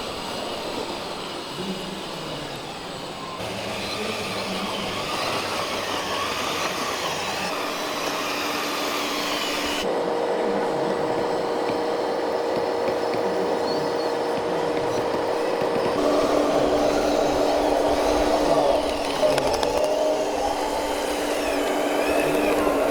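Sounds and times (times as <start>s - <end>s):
model truck electric motors whining: 0.0s - 22.9s.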